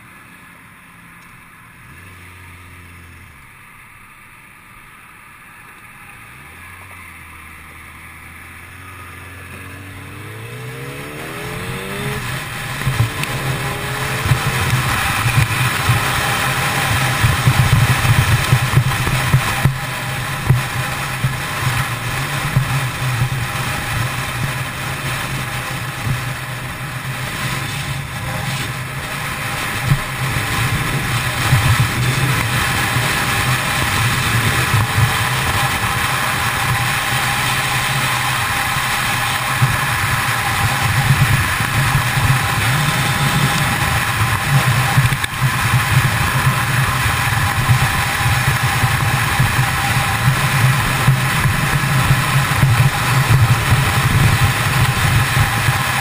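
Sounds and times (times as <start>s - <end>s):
motorcycle engine cruising: 0.0s - 56.0s
wind noise: 9.5s - 56.0s.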